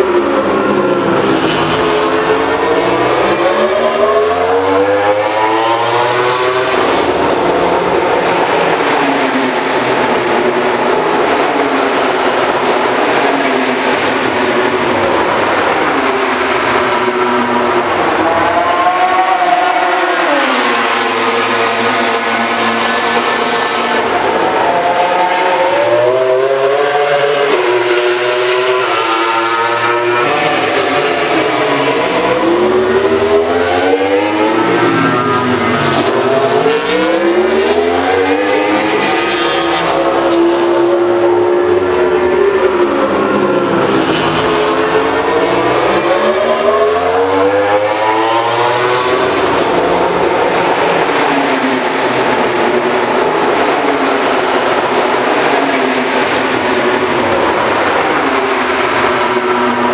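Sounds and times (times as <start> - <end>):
racing motorcycles passing: 0.0 - 59.9.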